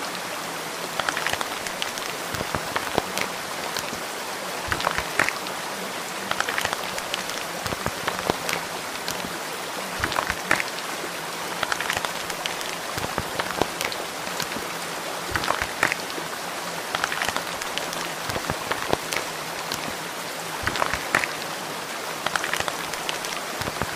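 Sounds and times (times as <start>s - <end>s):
sharp raindrops: 0.0s - 23.9s
steady rain: 0.0s - 23.9s.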